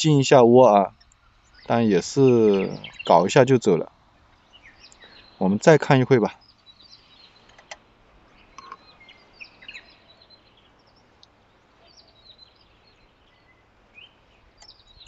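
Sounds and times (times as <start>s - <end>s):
high bird chirps: 0.9s - 15.0s.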